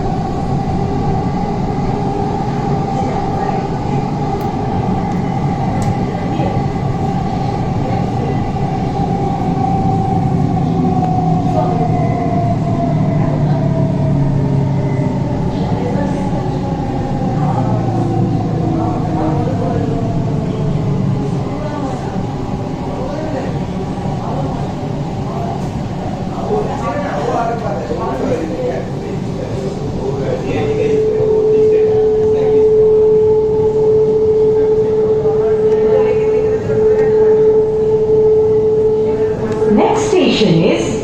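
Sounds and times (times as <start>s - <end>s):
train rumble inside car: 0.0s - 41.0s.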